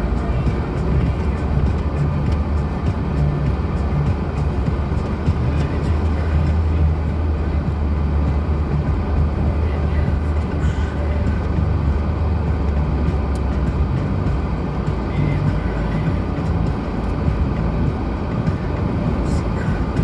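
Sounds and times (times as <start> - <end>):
car engine droning: 0.0 - 20.0
road noise: 0.0 - 20.0.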